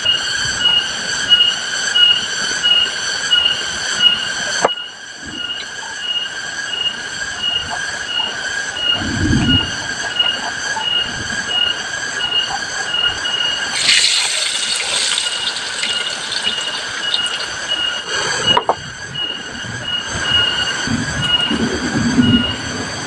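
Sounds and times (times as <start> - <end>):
shrill pulsing whistling drone: 0.0 - 23.0.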